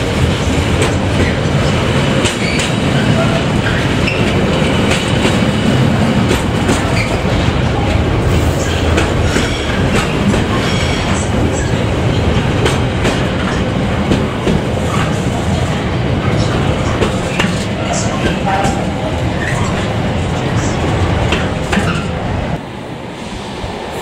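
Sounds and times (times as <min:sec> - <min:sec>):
train wheels clattering: 0:00.0 - 0:22.3.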